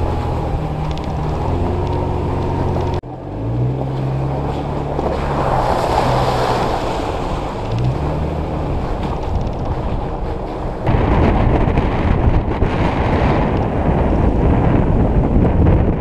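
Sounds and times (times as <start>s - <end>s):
vehicle engine running and revving: 0.0s - 16.0s
wind and driving noise: 0.0s - 16.0s.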